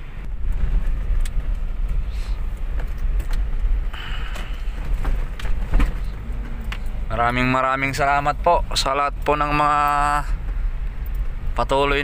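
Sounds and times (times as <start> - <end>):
road vehicle rumble: 0.0 - 12.0
light clicks and rattles: 0.4 - 8.0, 9.1 - 11.8.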